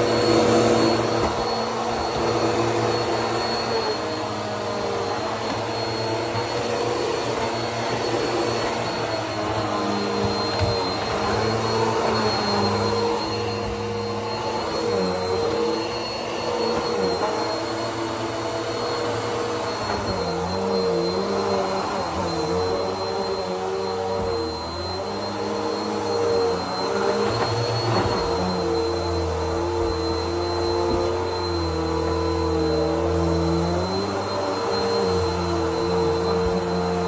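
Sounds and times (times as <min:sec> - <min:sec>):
vacuum cleaner whining: 0:00.0 - 0:37.0.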